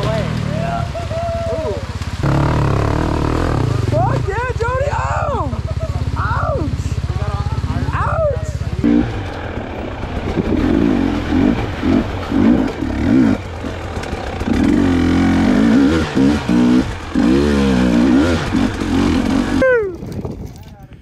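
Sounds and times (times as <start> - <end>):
dirt bike engine revving: 0.0 - 19.8.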